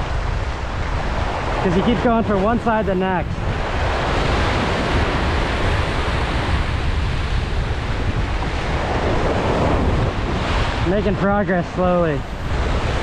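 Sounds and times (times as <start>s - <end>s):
wind buffeting microphone: 0.0s - 13.0s
surf breaking over rocks: 0.1s - 13.0s.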